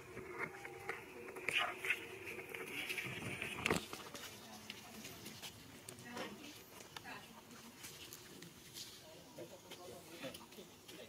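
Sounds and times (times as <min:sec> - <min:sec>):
monkeys scampering on dry leaves: 0:00.5 - 0:11.0.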